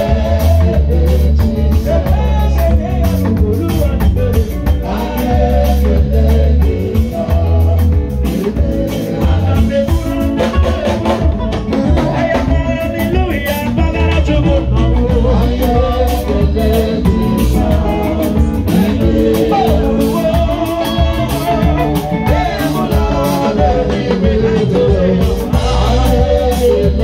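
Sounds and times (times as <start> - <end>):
live band playing: 0.0 - 27.0
person singing: 0.0 - 27.0.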